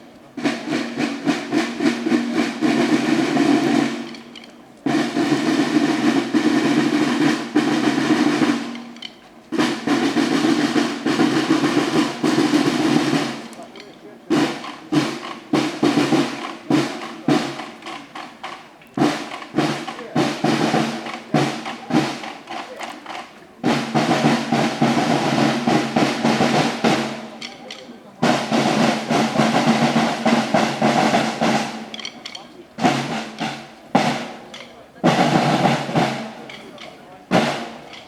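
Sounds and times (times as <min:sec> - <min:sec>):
drum beats: 0:00.0 - 0:38.0
drum rolls: 0:00.0 - 0:38.0.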